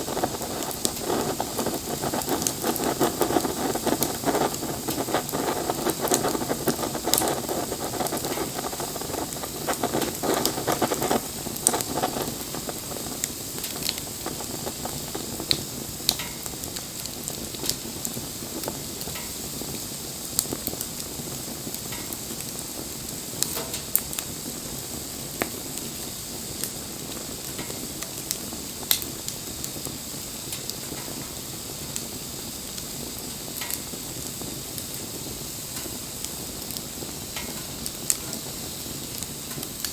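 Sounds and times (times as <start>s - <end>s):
bonfire hissing: 0.0s - 39.9s
fire crackles and pops: 0.0s - 39.9s.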